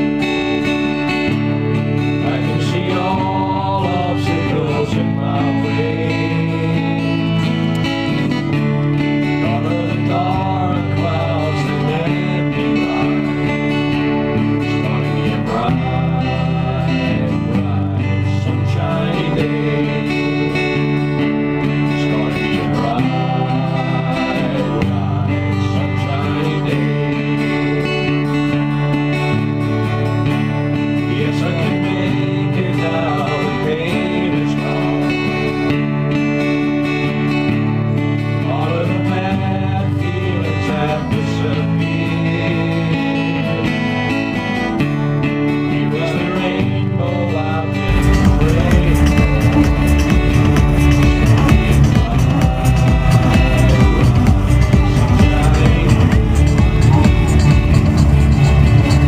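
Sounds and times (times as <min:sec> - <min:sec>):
guitar background music: 0:00.0 - 0:59.0.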